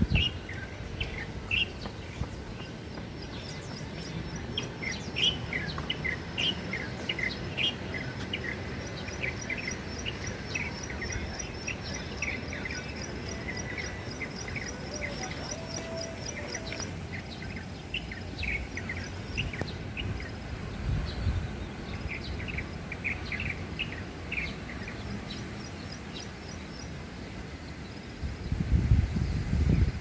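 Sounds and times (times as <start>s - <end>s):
songbird chirping: 0.0s - 28.6s
low background noise: 0.0s - 29.6s.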